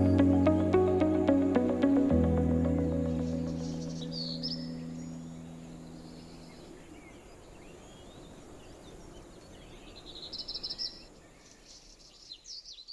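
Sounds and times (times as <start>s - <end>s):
birds singing: 0.0s - 12.9s.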